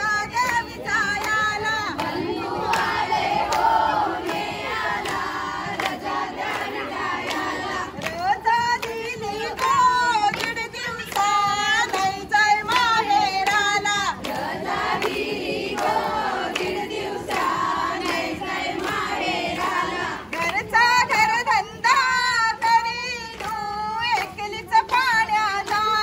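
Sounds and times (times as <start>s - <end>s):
women singing in unison: 0.0s - 26.0s.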